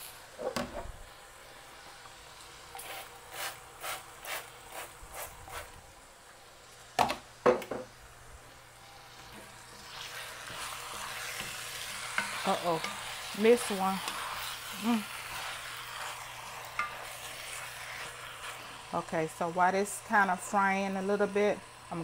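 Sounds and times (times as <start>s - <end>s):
chicken sizzling: 0.0s - 22.0s.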